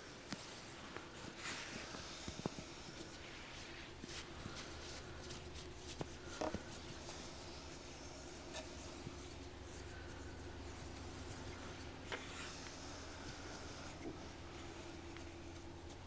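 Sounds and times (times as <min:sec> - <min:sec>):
faint low hum: 0:00.0 - 0:16.0
hands scratching and rubbing: 0:00.3 - 0:16.0.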